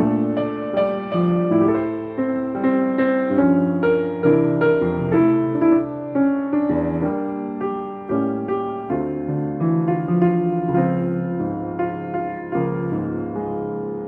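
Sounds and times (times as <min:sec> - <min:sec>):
solo piano playing: 0:00.0 - 0:14.0.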